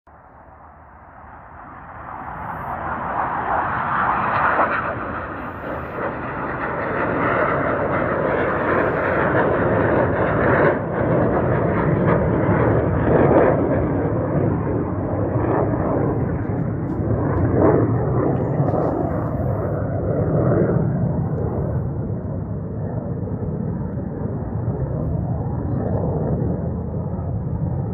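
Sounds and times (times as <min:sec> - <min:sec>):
aircraft flying past: 0:00.1 - 0:27.9.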